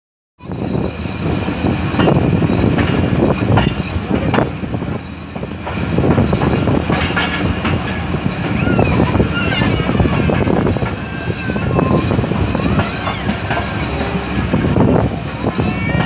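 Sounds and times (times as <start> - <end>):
train rumbling: 0.4 - 16.0.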